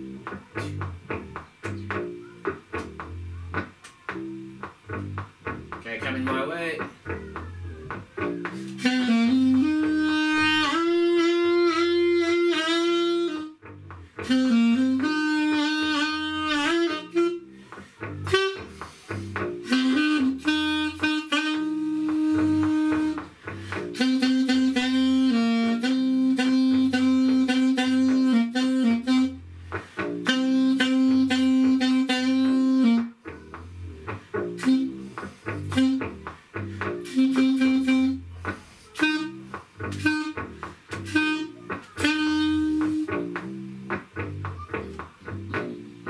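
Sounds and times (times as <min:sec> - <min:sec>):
backing track with guitar and bass: 0:00.0 - 0:46.0
wind instrument playing blues melody: 0:06.9 - 0:46.0.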